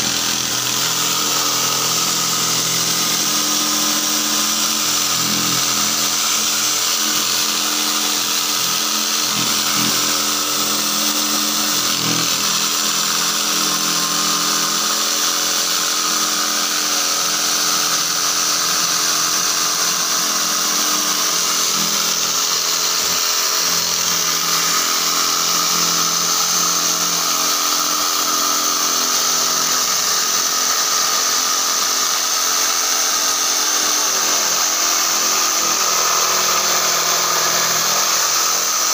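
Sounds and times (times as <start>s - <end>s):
electric jigsaw cutting wood: 0.0s - 38.9s.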